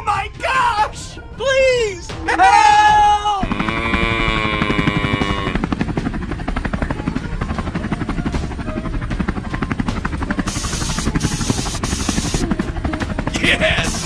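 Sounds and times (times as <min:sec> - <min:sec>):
helicopter rotor chopping: 0:00.0 - 0:14.0.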